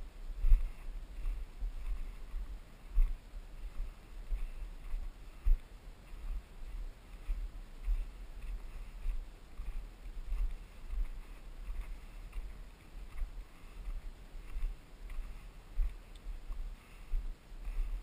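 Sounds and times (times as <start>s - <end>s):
running footsteps on dirt trail: 0.0s - 18.0s
wind buffeting microphone: 0.0s - 18.0s.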